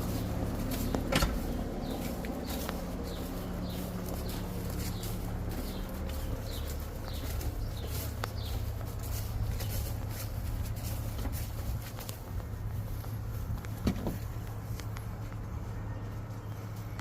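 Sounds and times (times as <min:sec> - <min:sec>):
footsteps through weeds: 0:00.0 - 0:17.0
small birds chirping: 0:00.0 - 0:17.0
steady low rumble: 0:00.0 - 0:17.0.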